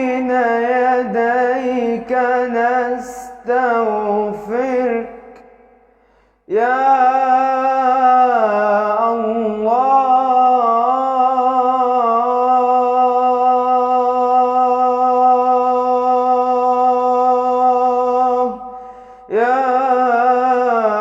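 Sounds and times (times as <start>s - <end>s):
man singing unaccompanied: 0.0s - 5.6s, 6.5s - 21.0s.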